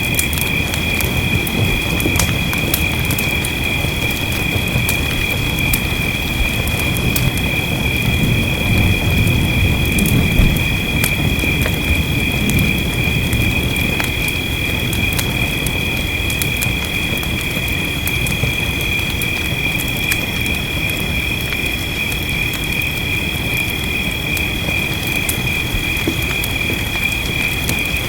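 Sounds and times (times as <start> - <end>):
rain rumble: 0.0 - 28.0
wood fire crackling: 0.0 - 28.0.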